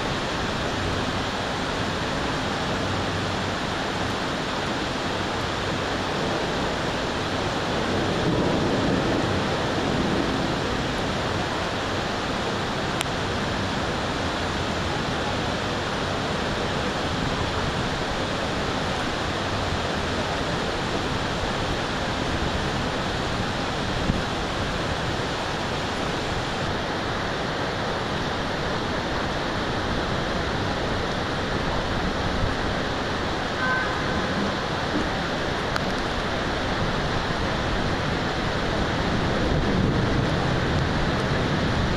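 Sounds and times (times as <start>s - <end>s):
heavy rain hissing: 0.0s - 41.9s.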